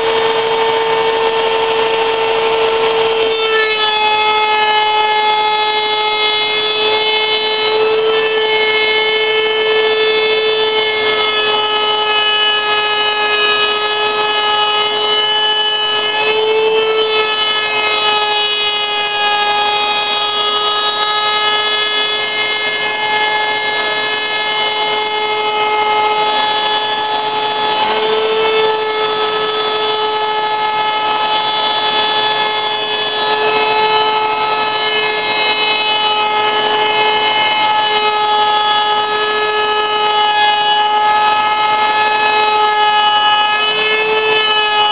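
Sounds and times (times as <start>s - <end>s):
dust collector running: 0.0s - 44.9s
electric router high whine: 0.0s - 44.9s.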